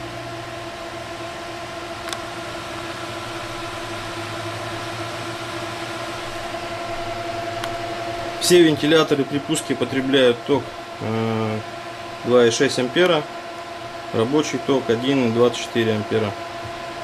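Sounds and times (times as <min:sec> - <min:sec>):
fans whooshing and humming: 0:00.0 - 0:17.0.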